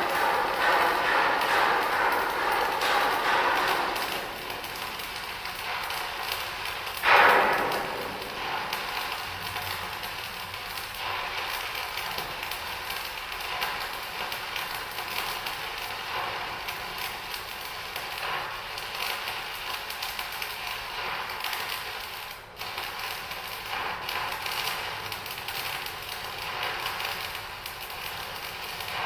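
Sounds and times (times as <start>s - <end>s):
arc welding crackle: 0.0s - 29.0s.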